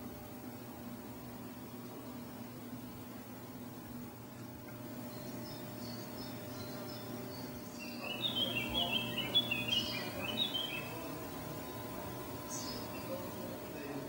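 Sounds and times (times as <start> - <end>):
steady low hum: 0.0 - 14.0
songbirds chirping: 0.2 - 14.0.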